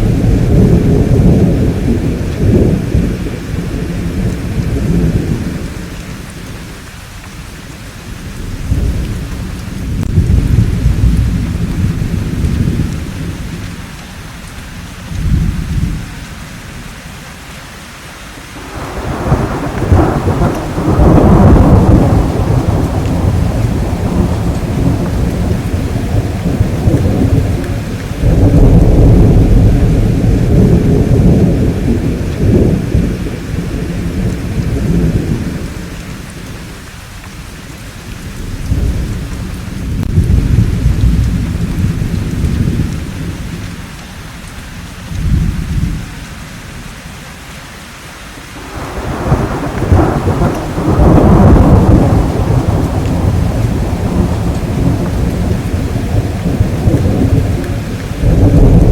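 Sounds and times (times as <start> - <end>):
thunder rumbling: 0.0 - 16.9, 18.6 - 46.2, 48.6 - 58.9
steady rain: 0.0 - 58.9.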